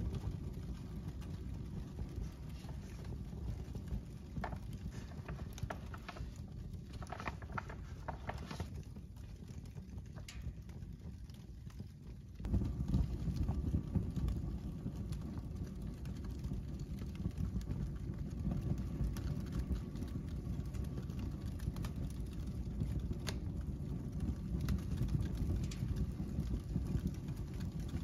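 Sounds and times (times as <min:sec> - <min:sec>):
fire crackling and popping: 0:00.0 - 0:28.0
fire roaring: 0:00.0 - 0:28.0.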